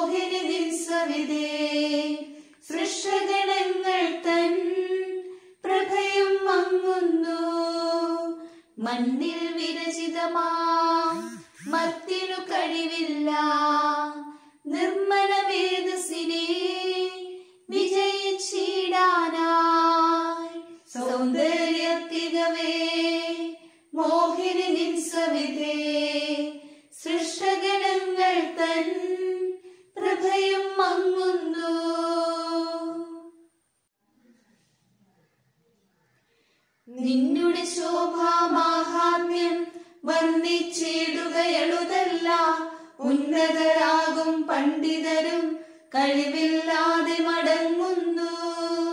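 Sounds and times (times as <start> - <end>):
person singing a hymn unaccompanied: 0.0 - 33.4, 36.9 - 48.9.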